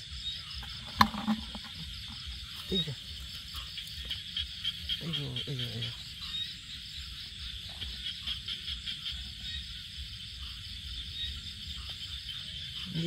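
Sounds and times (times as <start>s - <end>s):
frogs calling: 0.0s - 13.0s
insects pulsing: 0.0s - 13.0s.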